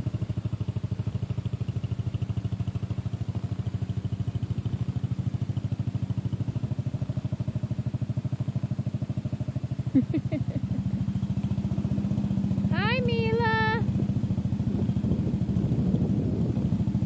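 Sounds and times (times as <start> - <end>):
small engine putt-putt: 0.0 - 17.0.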